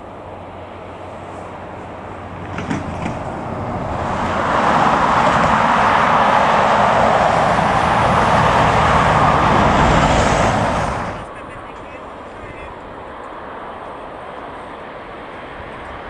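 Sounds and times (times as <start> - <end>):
jet engines roaring: 0.3 - 16.0.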